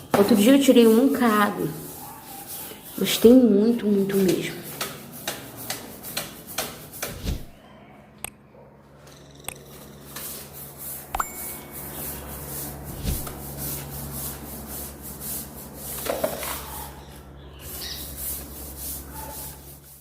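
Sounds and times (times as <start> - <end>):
broom scrubbing wet floor: 0.0 - 7.6, 10.0 - 20.0.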